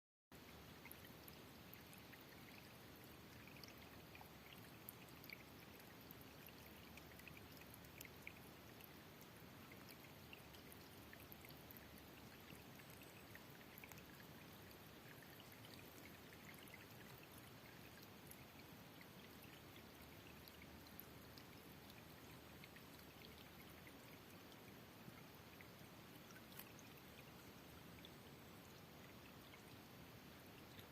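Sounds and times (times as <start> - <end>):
faint steady hiss: 0.3 - 30.9.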